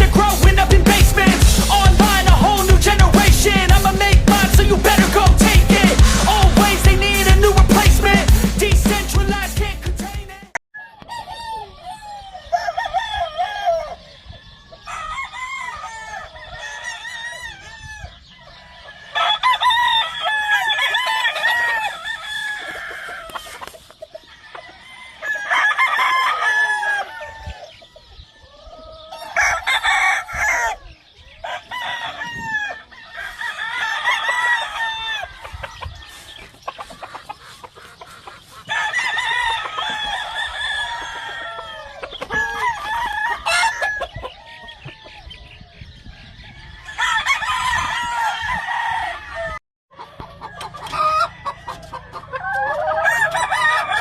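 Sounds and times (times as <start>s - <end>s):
chickens clucking: 0.0s - 54.0s
roosters crowing: 0.0s - 54.0s.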